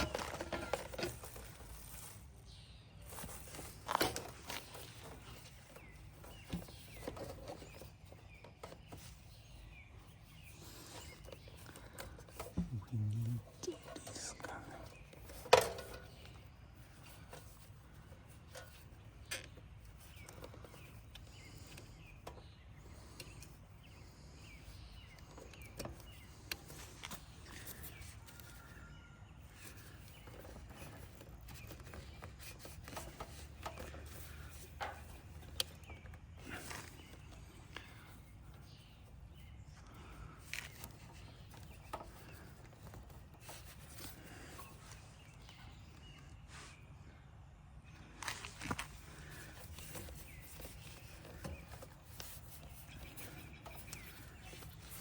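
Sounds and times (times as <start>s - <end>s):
outdoor background: 0.0s - 55.0s.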